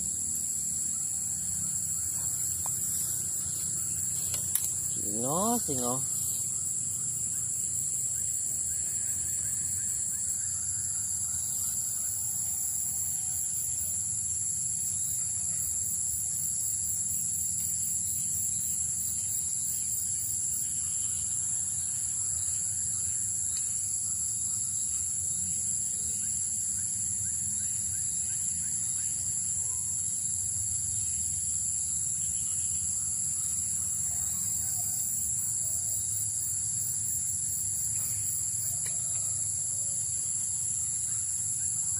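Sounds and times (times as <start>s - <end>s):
faster-pulsing higher insect trill: 0.0s - 41.9s
high-pitched insect trill: 0.0s - 41.9s.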